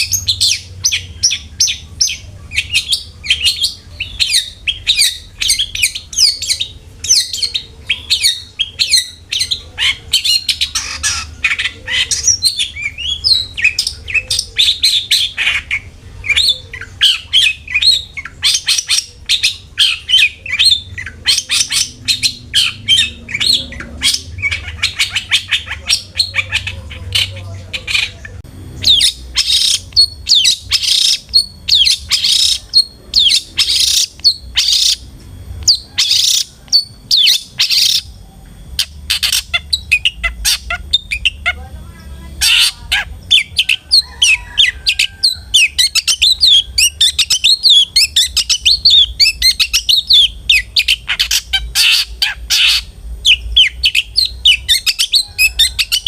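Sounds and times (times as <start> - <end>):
bird fast chatter: 0.0 - 35.1, 35.7 - 56.0
bird harsh rasping calls: 0.0 - 56.0.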